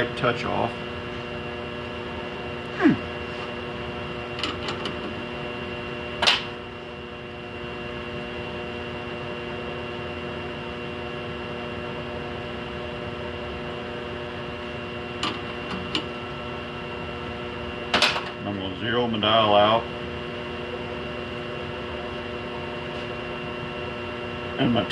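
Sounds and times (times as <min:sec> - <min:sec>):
steady machine hum: 0:00.0 - 0:24.9.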